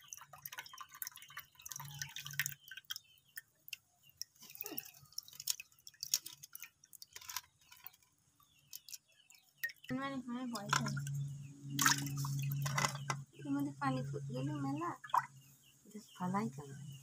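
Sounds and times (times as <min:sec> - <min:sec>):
water splashing and dripping: 0:00.0 - 0:15.5.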